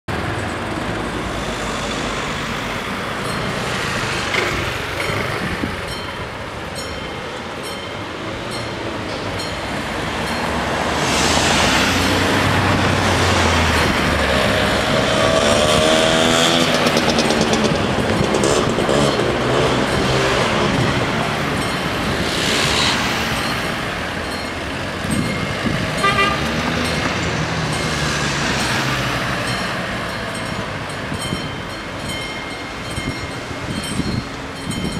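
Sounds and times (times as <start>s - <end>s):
cars driving past: 0.1s - 34.9s
level crossing warning bells: 1.6s - 11.1s, 12.0s - 34.9s.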